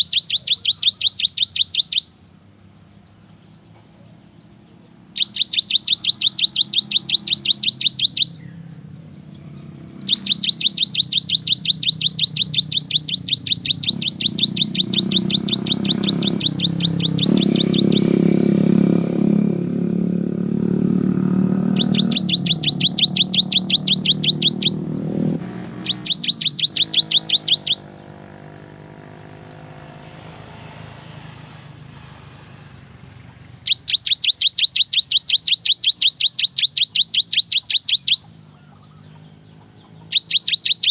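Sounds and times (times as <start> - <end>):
tit singing high repeated notes: 0.0 - 2.2, 4.8 - 30.0, 33.6 - 38.4, 40.0 - 40.9.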